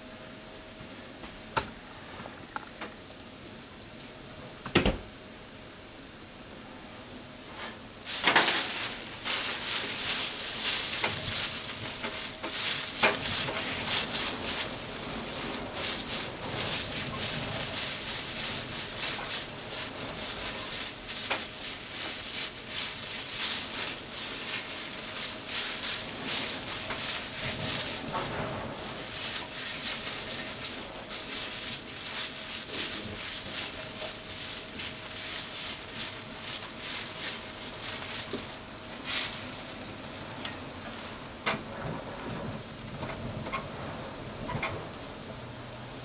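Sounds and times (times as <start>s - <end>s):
meat sizzling in a frying pan: 5.0s - 41.5s, 42.5s - 46.0s.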